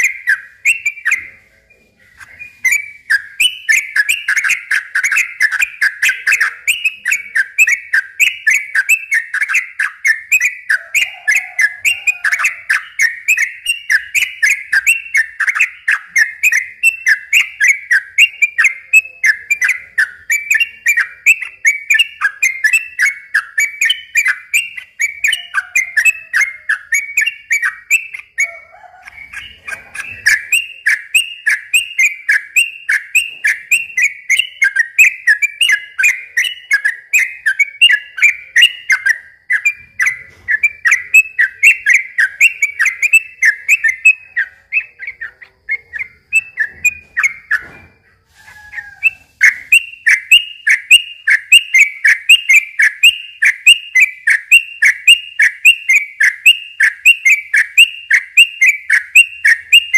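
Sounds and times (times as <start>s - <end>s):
bird whistled song: 0.0s - 59.9s.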